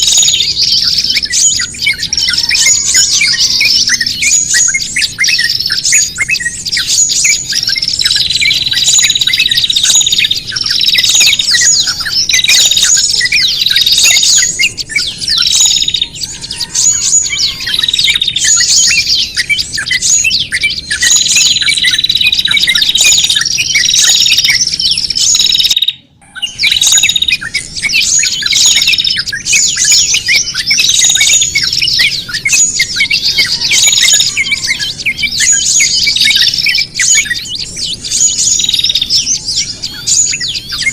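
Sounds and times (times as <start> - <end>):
held bird whistle: 0.0 - 40.9
small songbirds chirping: 0.0 - 40.9.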